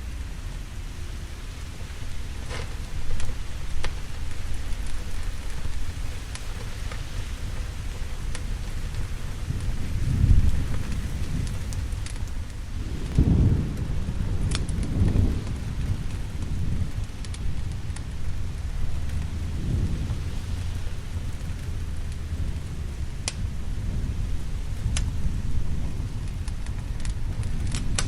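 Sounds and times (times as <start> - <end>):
rolling thunder rumbles: 0.0 - 28.0
steady rain: 0.0 - 28.0.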